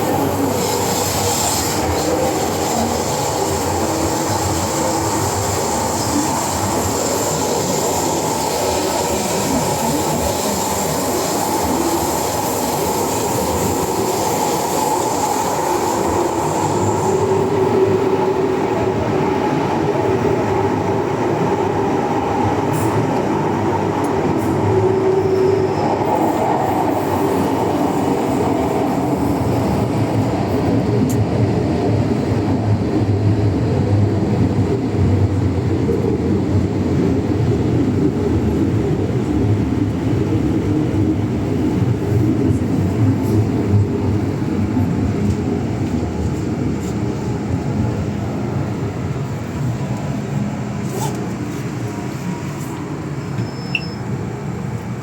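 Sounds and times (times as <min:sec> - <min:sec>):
metro train running: 0:00.0 - 0:55.0.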